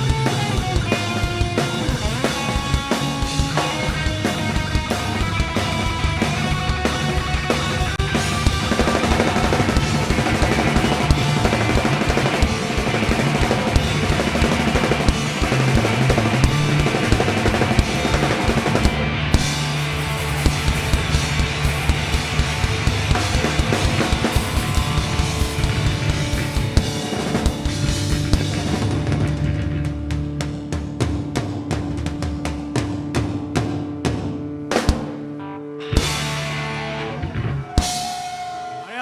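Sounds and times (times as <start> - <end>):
drum kit pounding: 0.0 - 35.3, 36.0 - 36.8, 37.7 - 38.8
live rock band playing: 0.0 - 38.8.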